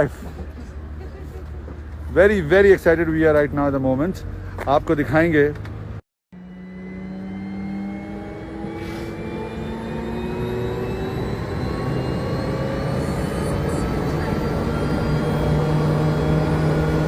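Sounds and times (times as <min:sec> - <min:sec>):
small aircraft engines running up: 0:00.0 - 0:17.0.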